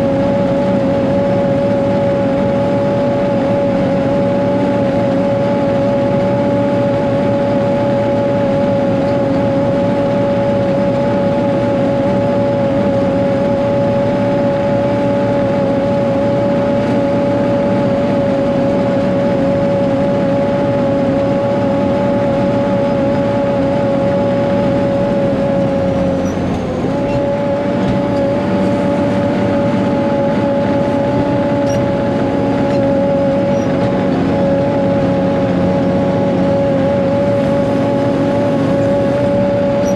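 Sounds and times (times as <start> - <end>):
diesel engine running under load: 0.0 - 39.9
steady whine: 0.0 - 39.9.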